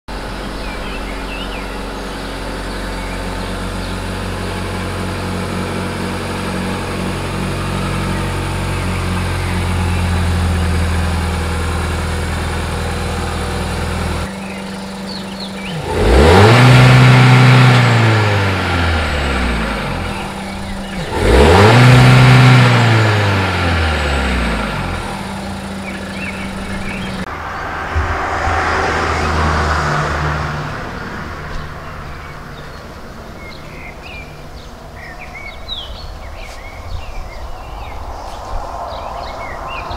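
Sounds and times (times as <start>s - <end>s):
car engine revving: 0.1s - 37.0s
car engine idling: 0.1s - 38.3s.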